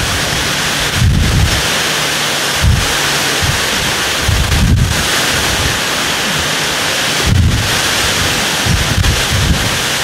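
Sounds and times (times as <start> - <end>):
torrential rain: 0.0 - 10.0
wind buffeting microphone: 0.0 - 10.0.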